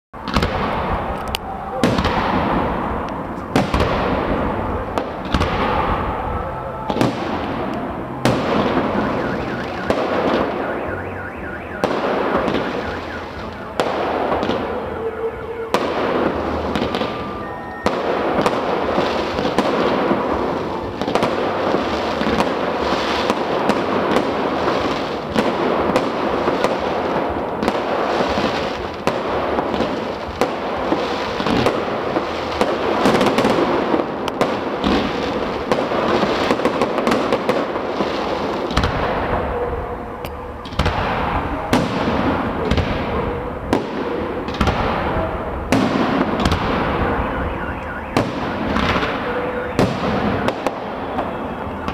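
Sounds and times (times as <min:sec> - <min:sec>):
fireworks bangs: 0:00.2 - 0:51.9
fireworks crackling: 0:00.2 - 0:51.9.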